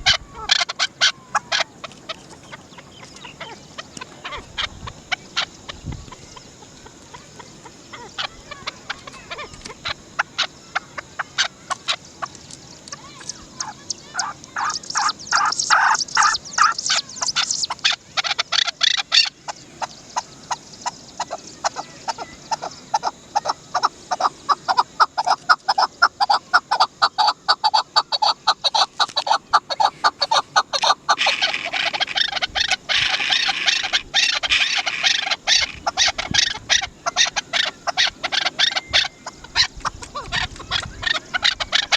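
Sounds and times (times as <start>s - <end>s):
partridge clucking calls: 0.0s - 41.9s.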